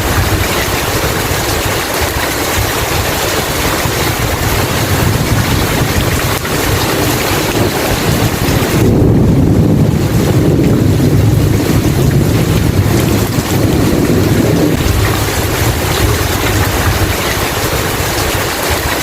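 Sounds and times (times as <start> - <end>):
deep rumble of thunder: 0.0 - 19.0
heavy rain hissing: 0.0 - 19.0.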